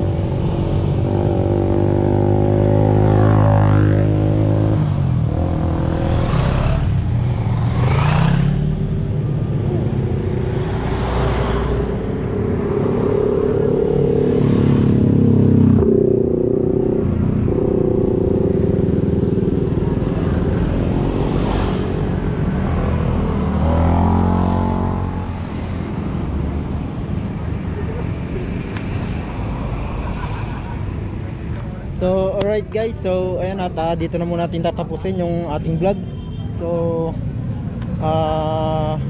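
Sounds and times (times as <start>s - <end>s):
cars passing: 0.0s - 39.0s.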